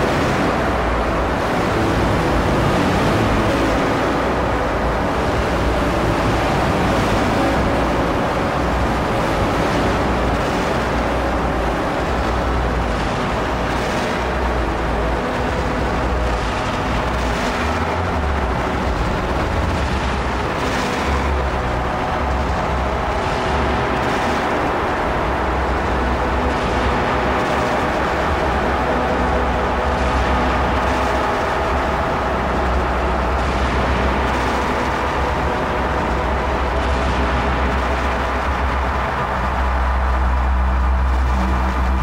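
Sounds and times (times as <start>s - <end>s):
deep pulsing rumble: 0.0s - 42.0s.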